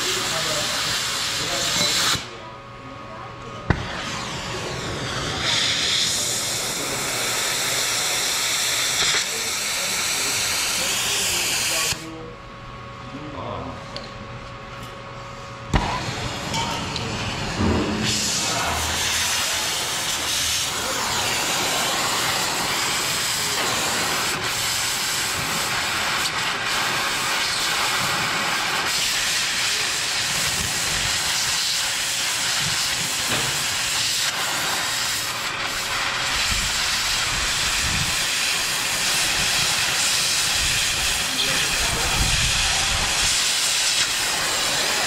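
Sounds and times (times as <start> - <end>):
cutting torch hissing: 0.0 - 2.4, 3.7 - 12.2, 15.7 - 45.0.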